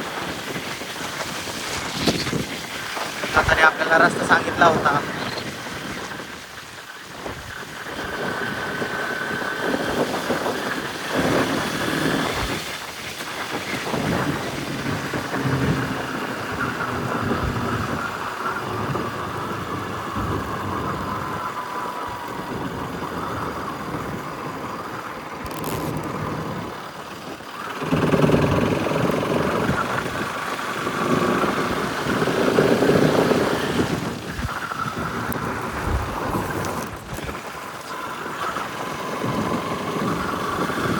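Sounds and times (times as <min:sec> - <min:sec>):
wind rumble on microphone: 0:00.0 - 0:40.9
motorcycle engine revving: 0:07.8 - 0:40.9.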